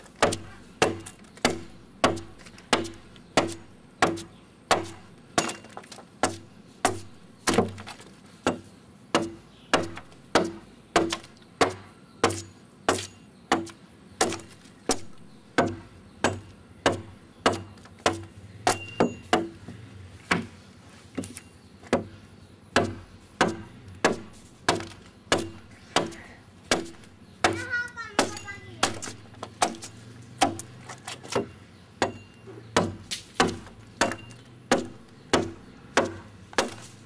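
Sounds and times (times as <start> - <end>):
blade chopping into wood: 0.0 - 19.6, 22.8 - 37.0.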